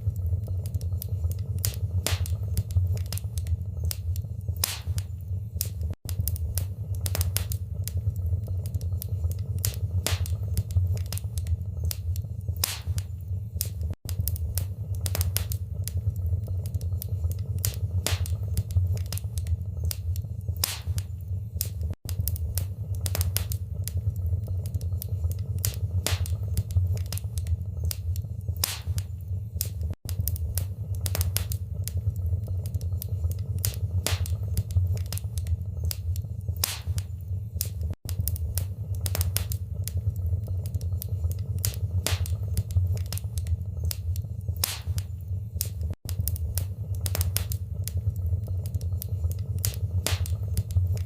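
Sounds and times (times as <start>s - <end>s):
low fire rumble: 0.0s - 51.0s
wood fire crackling and popping: 0.0s - 51.0s.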